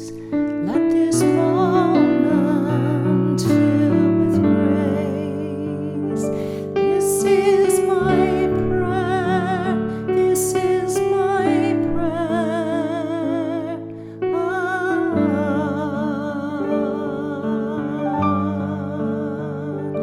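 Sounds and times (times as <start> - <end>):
person singing with vibrato: 0.0 - 20.0.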